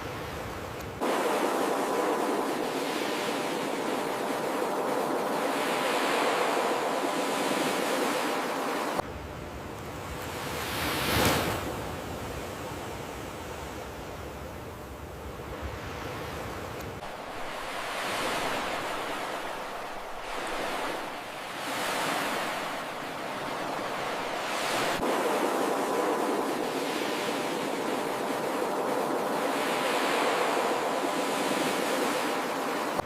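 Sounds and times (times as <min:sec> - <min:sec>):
ocean surf breaking on beach: 0:00.0 - 0:09.0, 0:09.9 - 0:14.3, 0:15.6 - 0:33.0.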